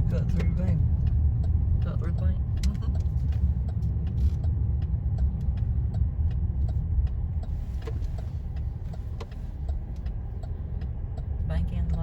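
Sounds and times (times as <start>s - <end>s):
car road and engine rumble: 0.0s - 12.0s
light ticks: 0.0s - 12.0s.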